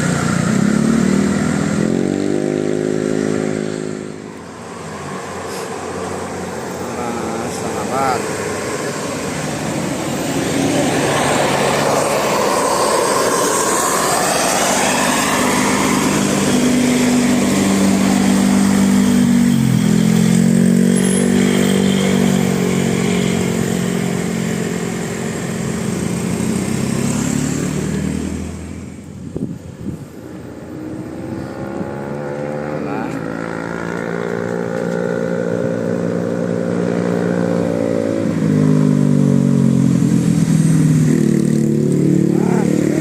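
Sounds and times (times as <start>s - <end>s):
bus engine humming: 0.0s - 37.5s
road noise: 0.0s - 43.0s.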